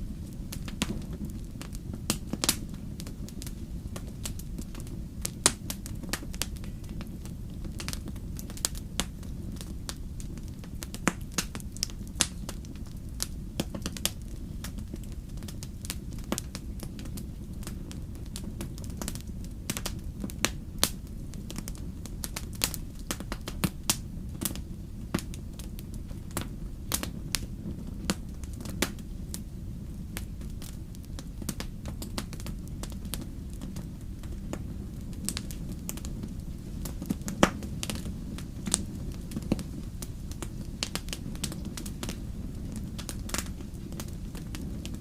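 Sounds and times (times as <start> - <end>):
low rumble of flames: 0.0 - 45.0
campfire pops and snaps: 0.1 - 45.0.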